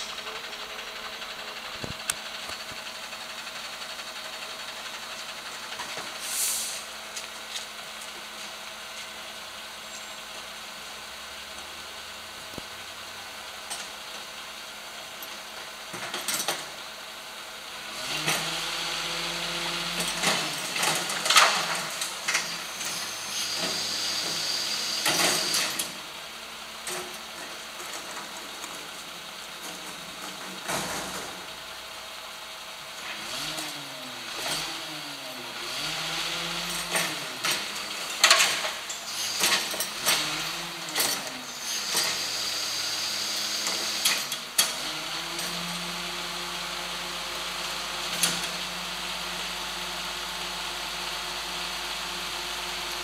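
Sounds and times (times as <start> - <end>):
truck engine idling and revving: 0.0 - 53.0.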